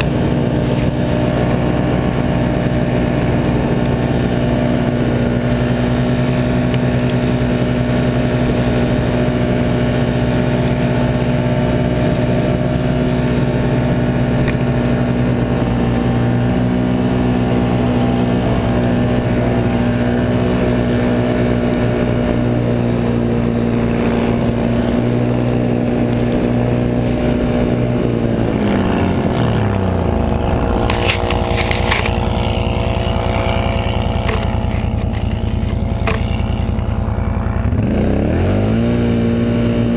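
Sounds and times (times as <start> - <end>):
atv engine at high revs: 0.0 - 39.9.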